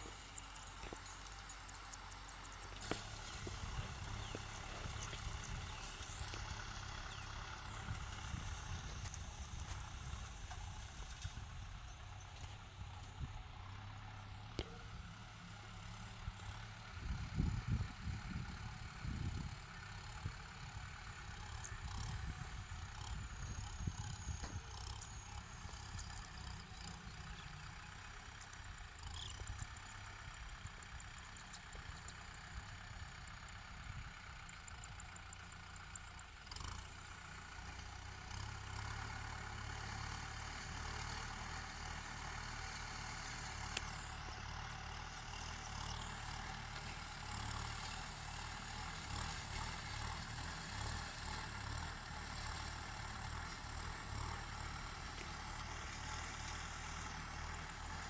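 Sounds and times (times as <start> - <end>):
tractor diesel engine rumbling: 0.0 - 58.0.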